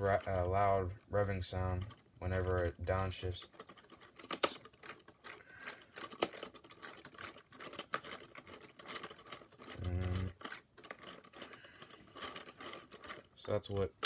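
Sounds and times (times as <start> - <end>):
plastic gears clicking: 0.0 - 14.0.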